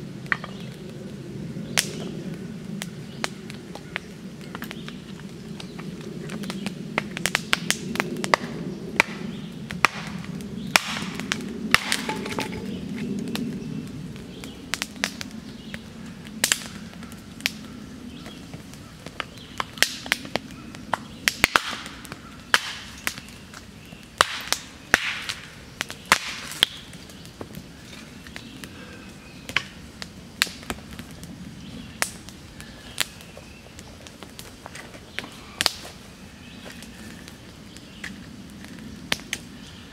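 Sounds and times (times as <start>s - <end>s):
wood fire crackling and hissing: 0.0s - 39.9s.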